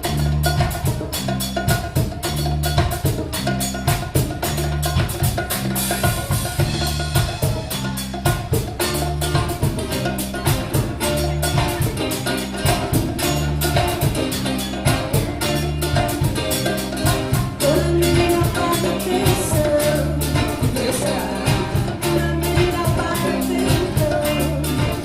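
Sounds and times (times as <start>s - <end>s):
band music: 0.0s - 25.0s
fast busy percussion: 0.0s - 25.0s
repeating bass line: 0.0s - 25.0s.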